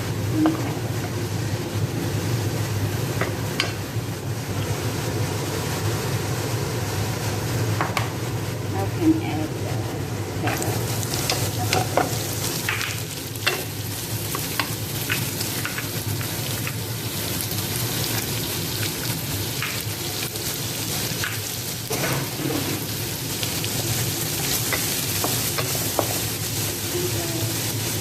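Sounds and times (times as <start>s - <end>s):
vegetables sizzling in oil: 0.0s - 28.0s.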